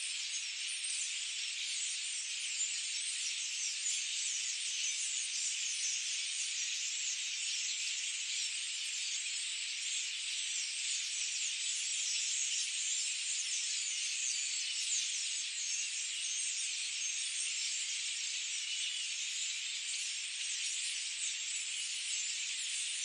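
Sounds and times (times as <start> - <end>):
chorus of many birds singing: 0.0 - 23.0.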